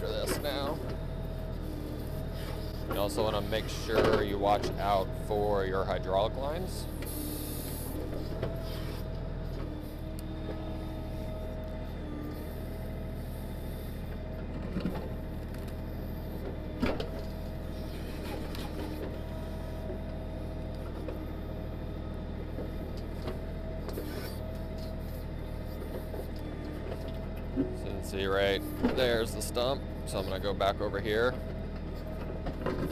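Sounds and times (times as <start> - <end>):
hydraulic whine: 0.0 - 32.9
tractor diesel engine running: 0.0 - 32.9.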